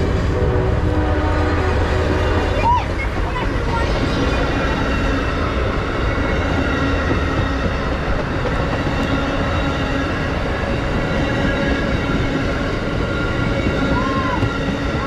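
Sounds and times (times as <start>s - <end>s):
steel wheels rolling on rail: 0.0s - 15.0s.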